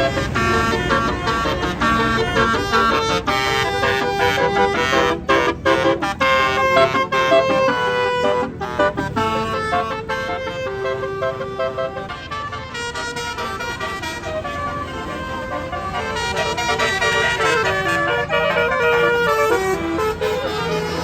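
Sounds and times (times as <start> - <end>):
bus horn playing a melody: 0.0 - 21.0.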